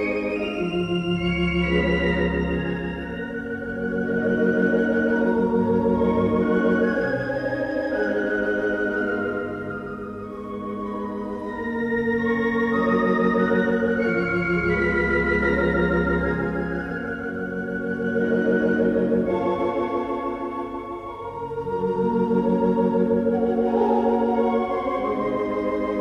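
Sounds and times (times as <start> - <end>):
pipe organ chords with tremulant: 0.0 - 26.0.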